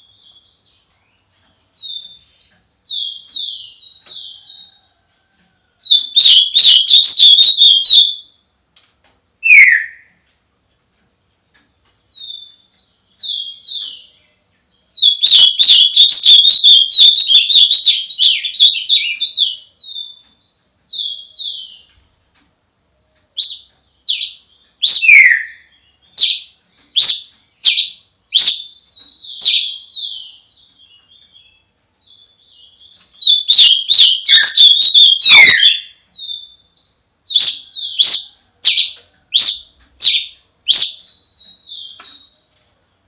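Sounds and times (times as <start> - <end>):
songbird singing: 0.0 - 8.6, 9.4 - 10.3, 11.5 - 22.1, 23.0 - 43.0.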